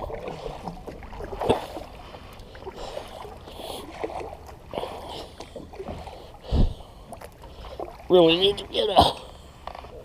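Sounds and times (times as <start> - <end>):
water splashing against kayak hull: 0.0 - 10.0.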